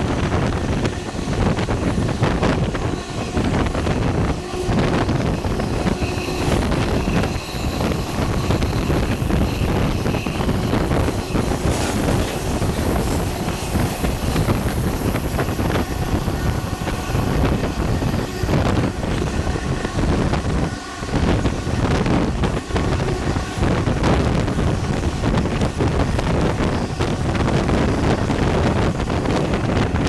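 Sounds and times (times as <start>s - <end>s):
train rumbling and rattling: 0.0s - 30.0s
wind buffeting microphone: 0.0s - 30.0s.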